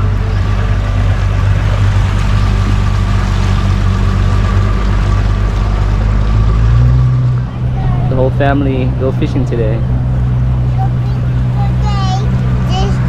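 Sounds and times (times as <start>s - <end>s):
motorboat engine running: 0.0s - 13.0s
rushing water: 0.0s - 13.0s.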